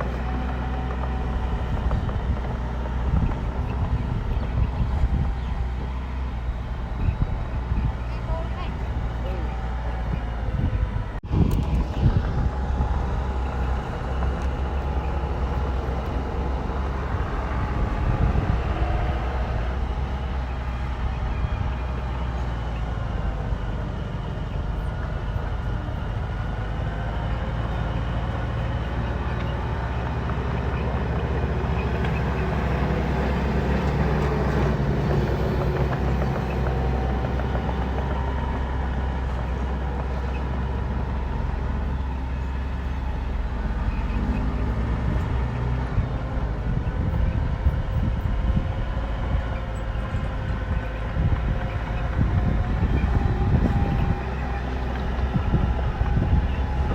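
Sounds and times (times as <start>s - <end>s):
bulldozer diesel engine running: 0.0s - 56.9s
clatter of work: 0.0s - 56.9s.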